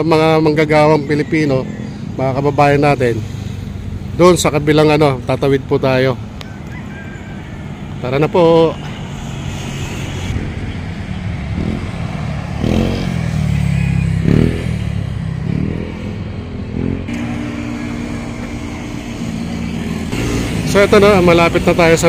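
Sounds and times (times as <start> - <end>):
motorcycles revving and passing: 0.0 - 22.0
traffic engine rumble: 0.0 - 22.0.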